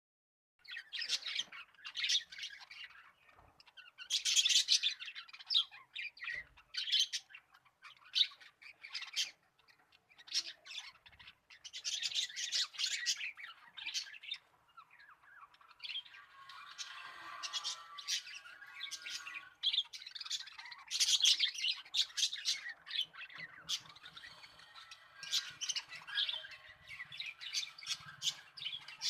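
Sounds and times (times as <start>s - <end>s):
parrots chattering and squawking: 0.6s - 29.0s.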